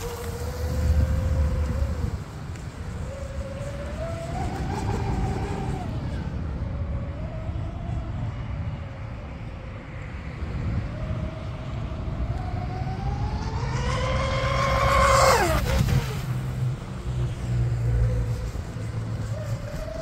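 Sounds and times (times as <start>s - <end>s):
speedboat motors whining: 0.0s - 20.0s.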